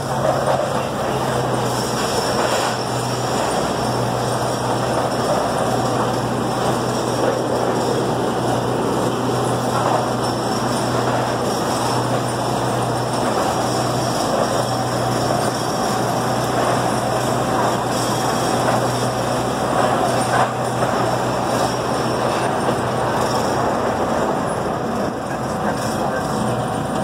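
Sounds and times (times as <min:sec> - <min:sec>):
miniature train engine humming: 0:00.0 - 0:27.0
wheels clattering on rails: 0:00.0 - 0:27.0.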